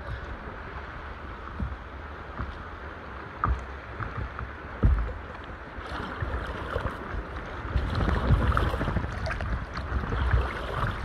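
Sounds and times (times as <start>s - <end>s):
water lapping and splashing: 0.0s - 11.0s
wind rumble on microphone: 0.0s - 11.0s.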